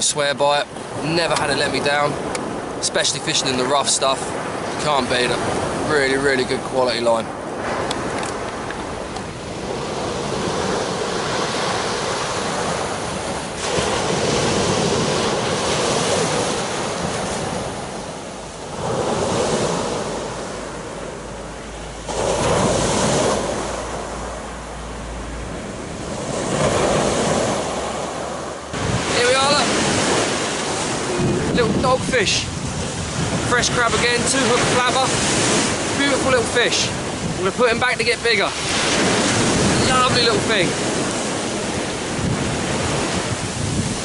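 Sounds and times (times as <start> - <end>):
surf breaking on beach: 0.0 - 44.0
wind buffeting microphone: 0.0 - 44.0.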